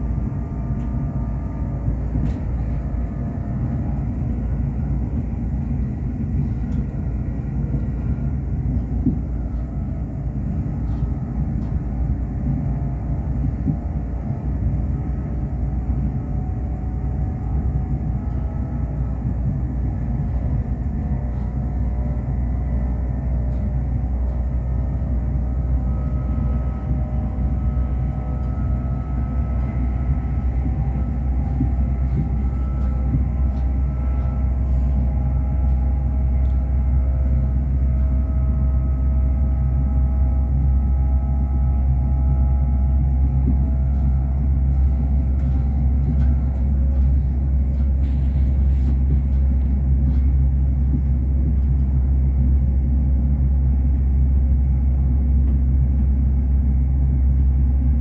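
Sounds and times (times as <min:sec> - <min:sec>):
faint whining tones: 0:00.0 - 0:58.0
train wheels rumbling on track: 0:00.0 - 0:58.0.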